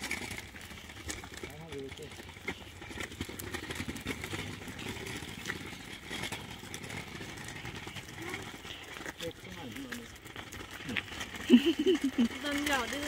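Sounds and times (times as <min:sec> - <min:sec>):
plastic wheels rolling on asphalt: 0:00.0 - 0:13.0.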